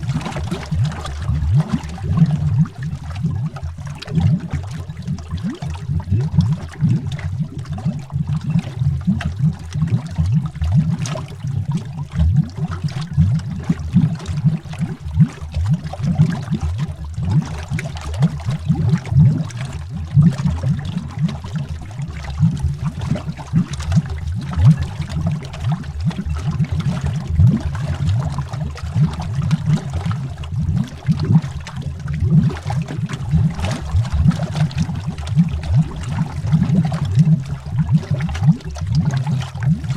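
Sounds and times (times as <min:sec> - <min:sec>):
underwater bubbles burbling: 0:00.0 - 0:39.9.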